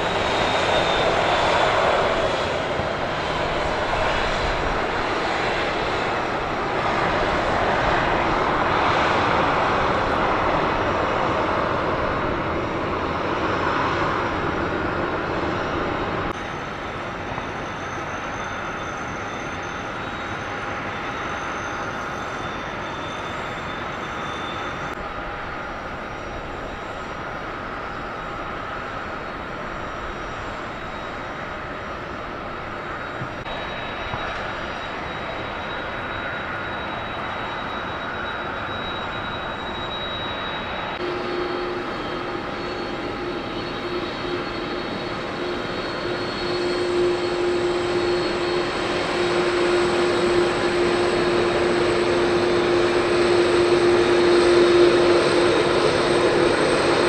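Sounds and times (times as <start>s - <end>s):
jet engines droning: 0.0s - 57.0s
taxiing jet hum and whine: 0.0s - 57.0s.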